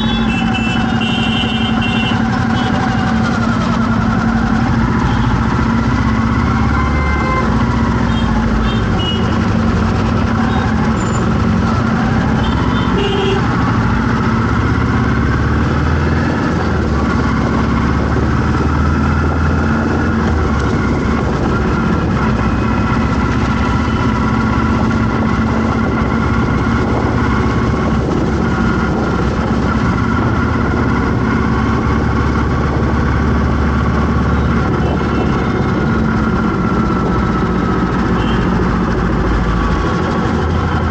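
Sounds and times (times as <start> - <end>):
vehicle engines idling: 0.0 - 40.9.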